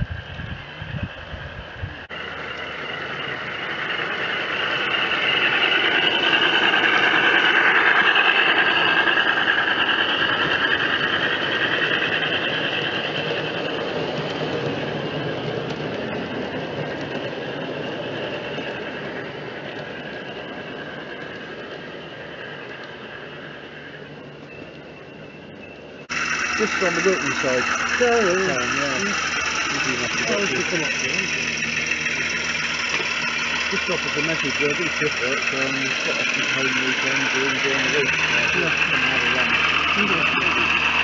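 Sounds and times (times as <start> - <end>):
model train rolling on track: 0.0 - 41.0.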